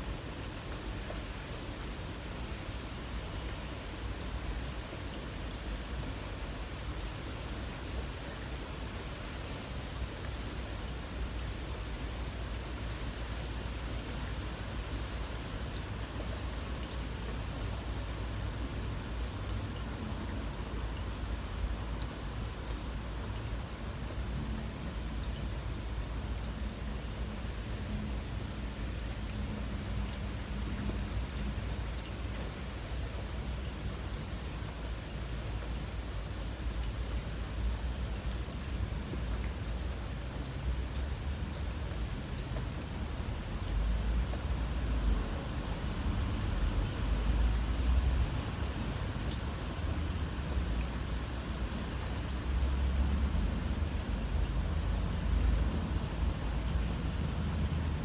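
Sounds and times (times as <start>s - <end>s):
insects trilling: 0.0s - 58.0s
light rain hiss: 0.0s - 58.0s.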